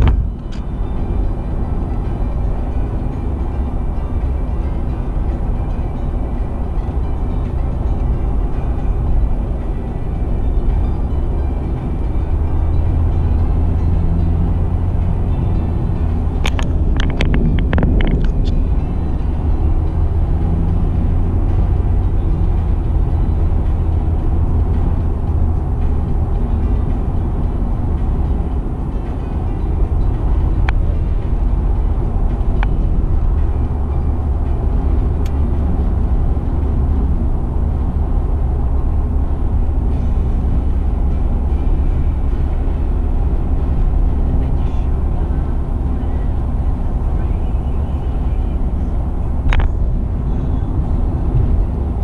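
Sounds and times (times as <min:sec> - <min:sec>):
car road noise: 0:00.0 - 0:52.0.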